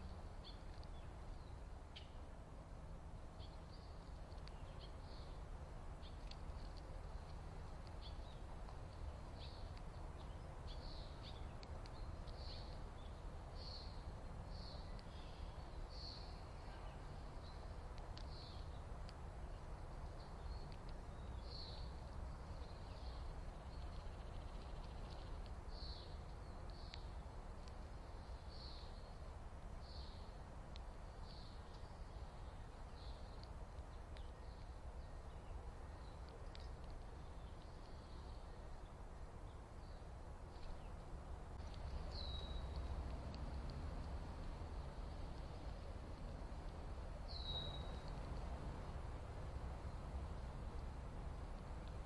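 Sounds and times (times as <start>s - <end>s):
faint low rumble: 0.0s - 52.0s
small birds chirping: 0.0s - 52.0s.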